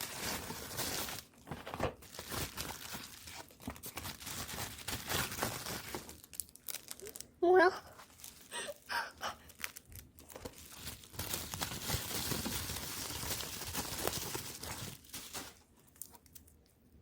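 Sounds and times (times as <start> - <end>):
packaging crinkling and tearing: 0.0 - 16.7.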